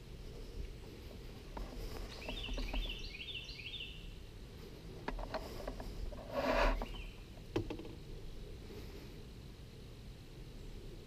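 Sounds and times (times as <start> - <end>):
songbird chirping: 0.0 - 9.8
rustle: 0.0 - 11.0.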